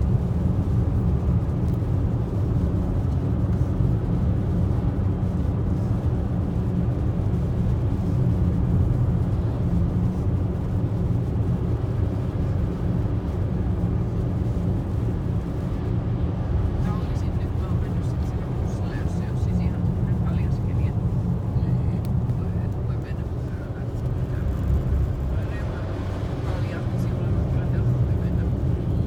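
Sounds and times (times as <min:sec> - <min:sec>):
car engine rumble: 0:00.0 - 0:29.0
tyres on snowy road: 0:00.0 - 0:29.0.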